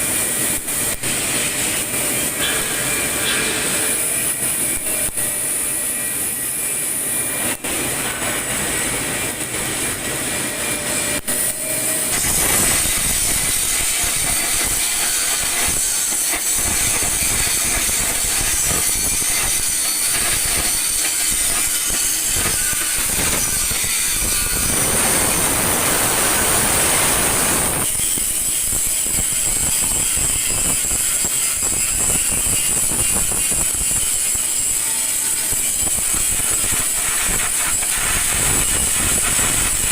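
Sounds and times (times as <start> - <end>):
welding arc hiss and crackle: 0.0 - 39.9.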